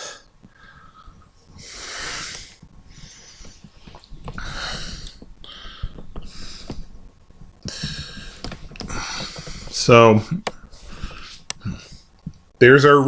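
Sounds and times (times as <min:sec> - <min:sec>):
person breathing: 0:00.0 - 0:03.7, 0:04.3 - 0:06.9, 0:07.6 - 0:12.1.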